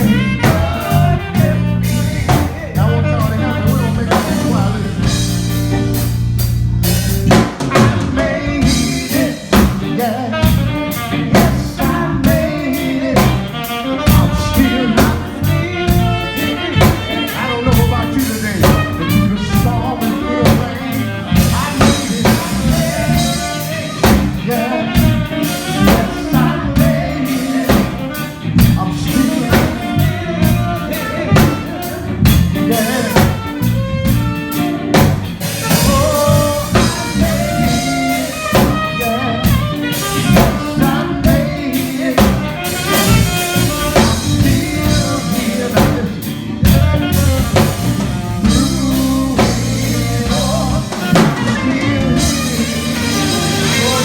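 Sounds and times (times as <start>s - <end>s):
person singing: 0.0s - 5.5s, 7.3s - 34.6s, 35.4s - 54.0s
band music: 0.0s - 54.0s
drum kit beat: 0.0s - 54.0s.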